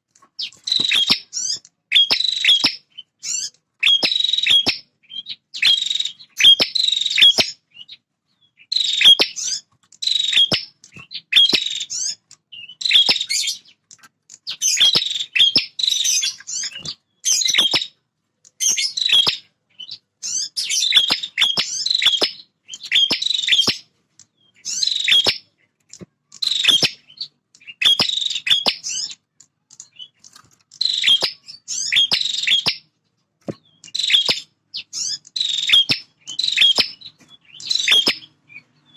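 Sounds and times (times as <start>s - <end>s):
bird chattering song: 0.4s - 38.9s.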